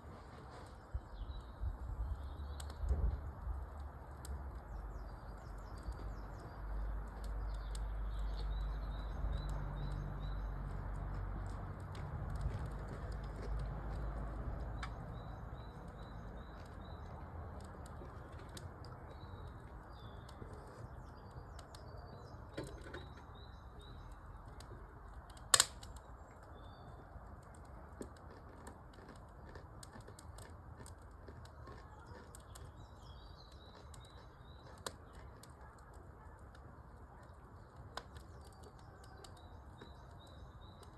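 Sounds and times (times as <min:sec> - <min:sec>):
wood fire crackling: 0:00.0 - 0:40.9
small birds chirping: 0:00.5 - 0:40.9.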